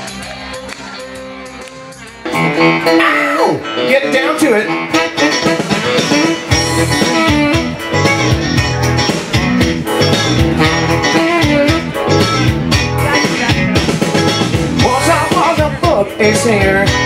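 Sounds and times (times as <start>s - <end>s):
blues band playing: 0.0s - 17.0s.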